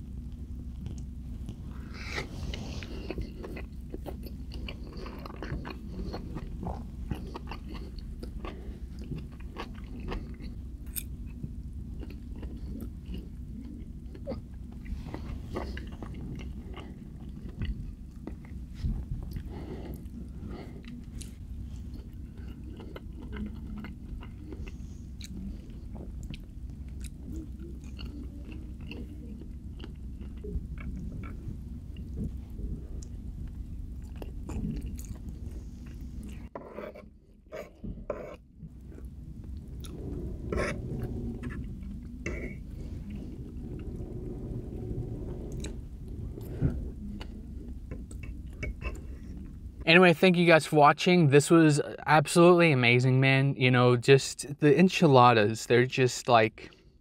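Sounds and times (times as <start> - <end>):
low hum: 0.0 - 50.6
person chewing food: 0.2 - 49.8.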